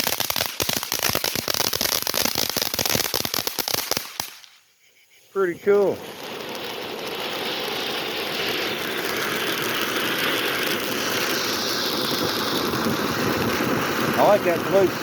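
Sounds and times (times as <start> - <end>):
firework fountain hissing: 0.0 - 4.4, 5.3 - 15.0.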